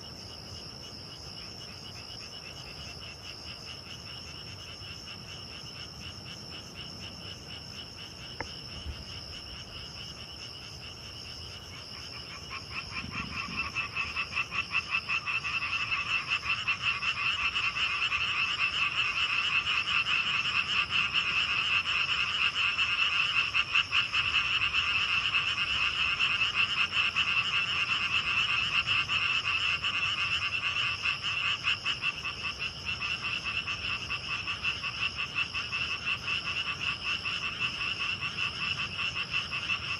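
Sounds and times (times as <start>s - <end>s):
frogs pulsing calls: 0.0s - 39.9s.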